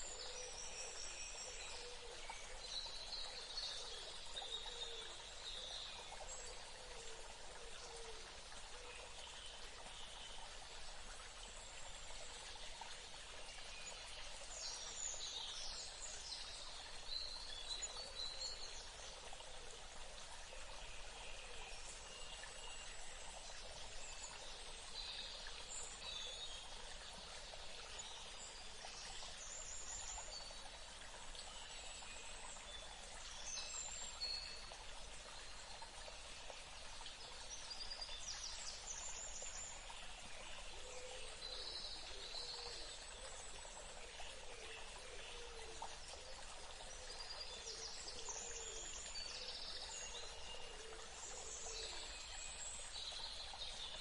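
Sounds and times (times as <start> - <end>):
trickling stream: 0.0 - 54.0.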